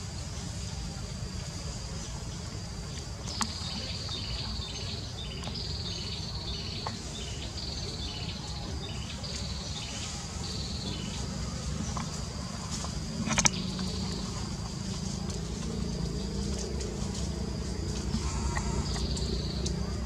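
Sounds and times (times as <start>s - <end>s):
insects trilling: 0.0s - 20.0s
low rumble: 0.0s - 20.0s.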